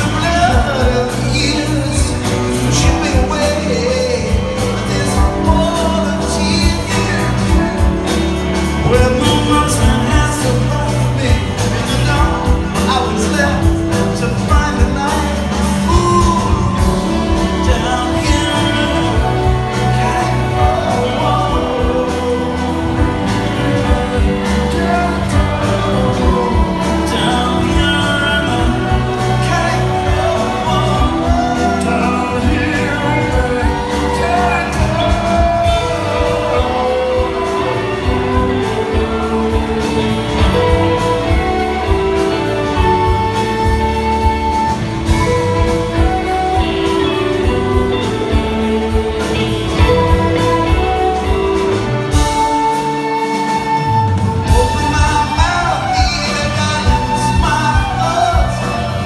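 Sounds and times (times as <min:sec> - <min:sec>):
drums keeping a steady beat: 0:00.0 - 0:59.0
live band playing: 0:00.0 - 0:59.0
person singing: 0:00.0 - 0:59.0.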